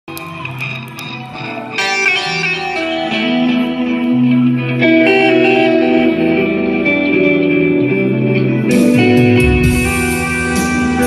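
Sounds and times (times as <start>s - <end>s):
electric guitar melody: 0.1s - 11.0s.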